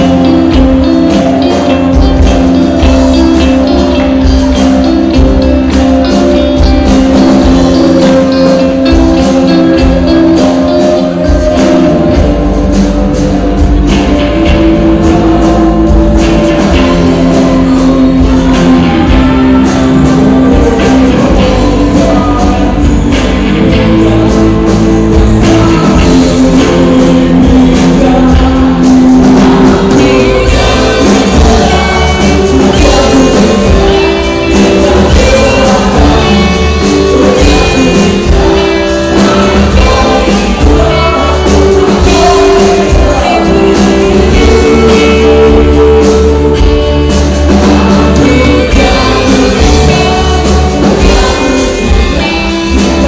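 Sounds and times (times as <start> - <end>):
drum kit beat: 0.0 - 53.0
keyboard: 0.0 - 53.0
man singing: 0.0 - 53.0
woman singing: 6.6 - 53.0.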